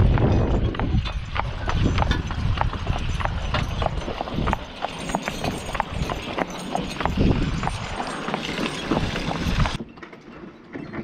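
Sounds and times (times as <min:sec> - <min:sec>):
horse hooves clip-clopping: 0:00.0 - 0:11.0.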